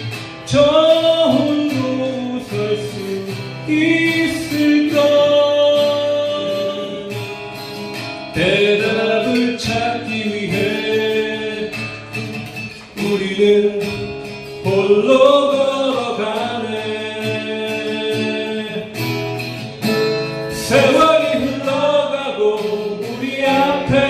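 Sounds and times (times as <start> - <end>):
acoustic guitar plucking: 0.0 - 24.0
person singing slow folk song: 0.0 - 24.0.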